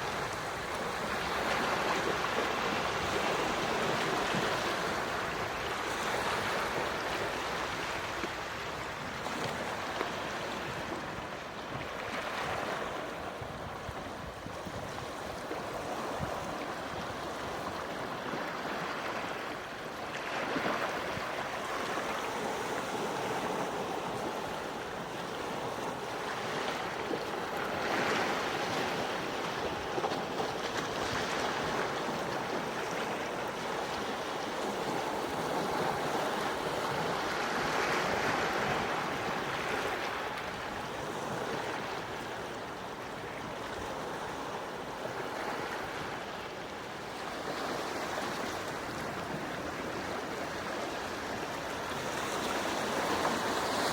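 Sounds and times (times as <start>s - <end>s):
sea waves washing on shore: 0.0s - 53.9s.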